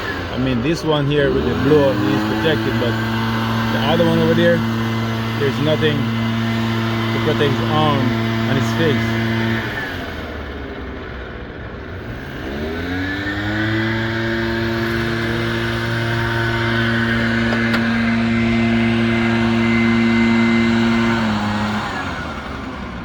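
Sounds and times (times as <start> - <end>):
leaf blower engine revving: 0.0 - 23.0.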